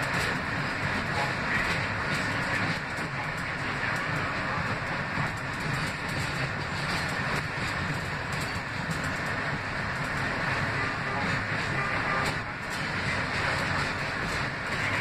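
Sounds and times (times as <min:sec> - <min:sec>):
wheel-on-rail rumble: 0:00.0 - 0:15.0.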